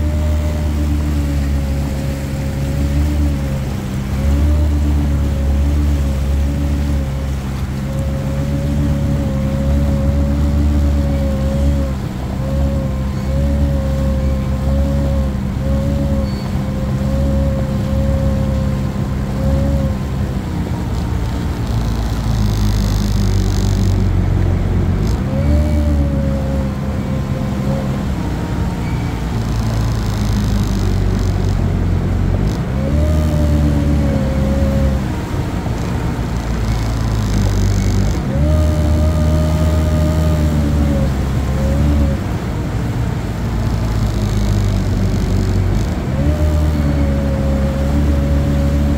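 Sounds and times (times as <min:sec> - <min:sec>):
jet ski engine revving: 0:00.0 - 0:48.9
rushing water: 0:00.0 - 0:48.9.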